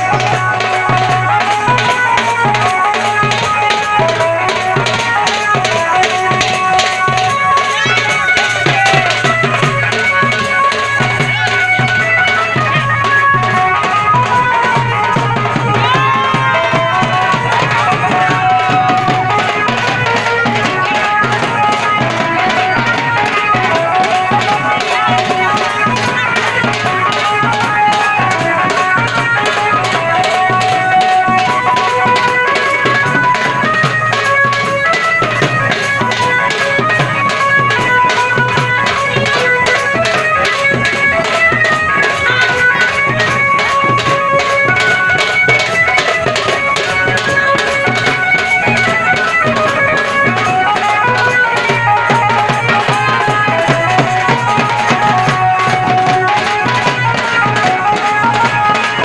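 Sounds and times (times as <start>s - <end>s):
procession band drumming and melody: 0.0s - 59.0s.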